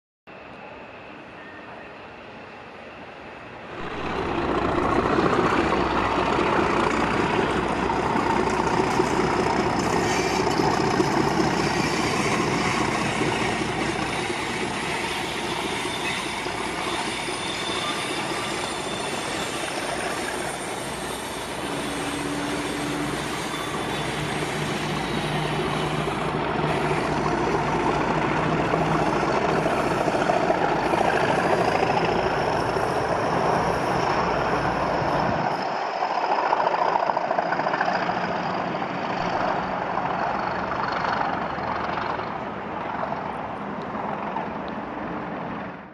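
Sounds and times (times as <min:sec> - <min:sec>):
diesel locomotive engines working hard: 0:00.3 - 0:45.9.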